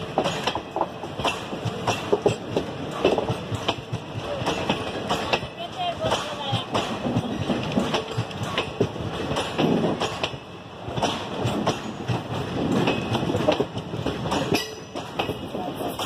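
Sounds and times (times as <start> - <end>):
train wheels clattering over rail joints: 0.0 - 16.0.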